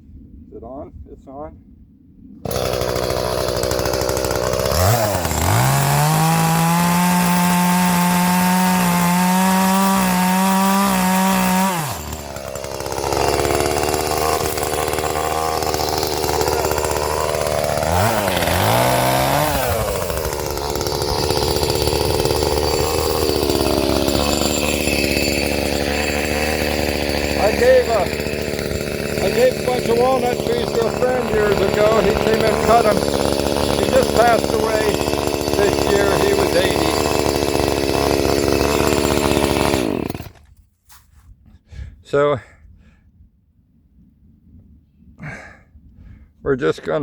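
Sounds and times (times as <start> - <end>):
chainsaw revving and idling: 2.4 - 40.5.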